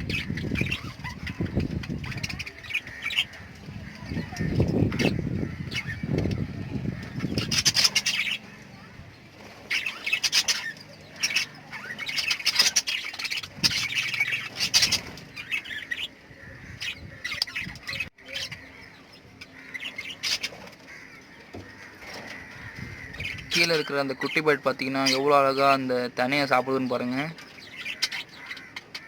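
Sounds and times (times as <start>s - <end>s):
lovebirds chirping and squawking: 0.0s - 29.0s.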